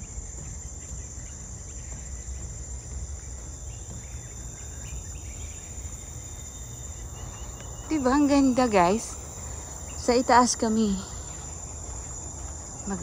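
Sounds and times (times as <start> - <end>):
insect chorus drone: 0.0 - 13.0
low uneven rumble: 0.0 - 13.0.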